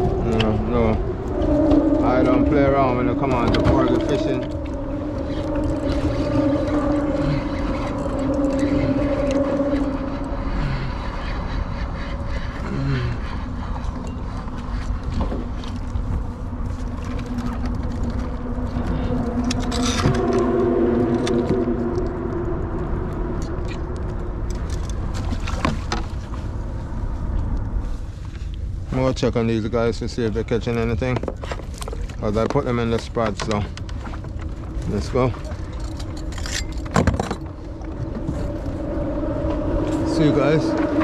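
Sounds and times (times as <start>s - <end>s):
engine hum: 0.0s - 41.0s
wind rumbling on microphone: 0.0s - 41.0s.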